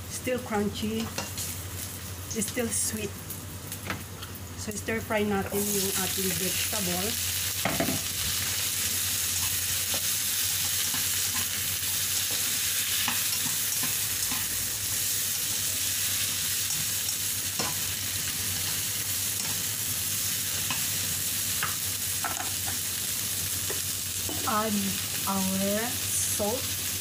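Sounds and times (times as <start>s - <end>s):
vegetables sizzling in a pan: 0.0s - 27.0s.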